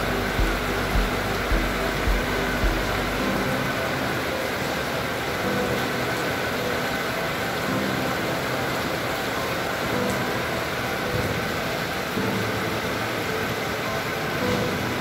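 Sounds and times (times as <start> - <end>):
rain: 0.0 - 15.0.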